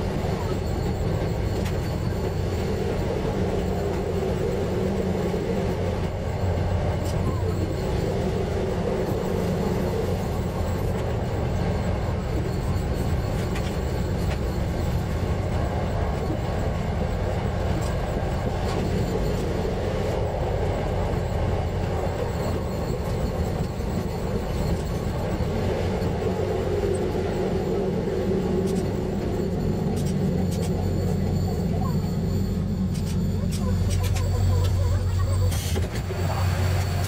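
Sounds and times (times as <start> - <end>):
railcar engine drone: 0.0 - 37.0
wheel-on-rail rumble: 0.0 - 37.0.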